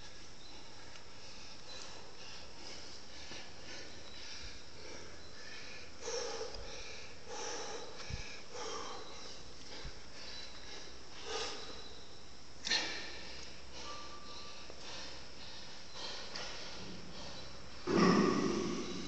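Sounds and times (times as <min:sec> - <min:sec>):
man breathing heavily: 0:00.0 - 0:19.0.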